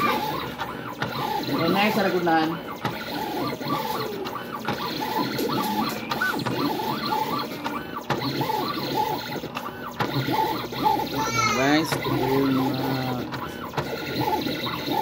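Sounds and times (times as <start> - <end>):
cutting plotter motors whining: 0.0 - 15.0.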